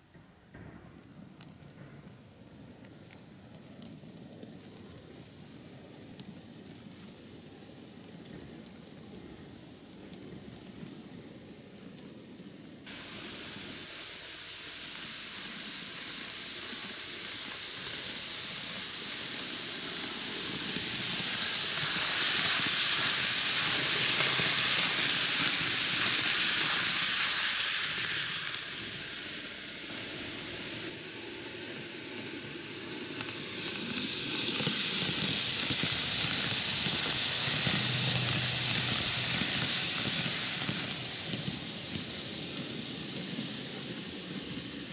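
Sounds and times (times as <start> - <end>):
model train whirring on rails: 1.4 - 44.9.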